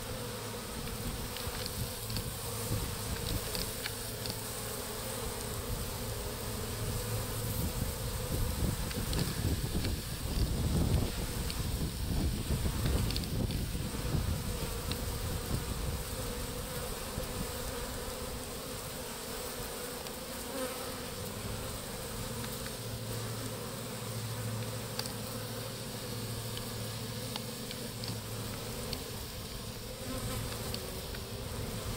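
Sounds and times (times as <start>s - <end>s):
honeybees buzzing: 0.0s - 31.9s.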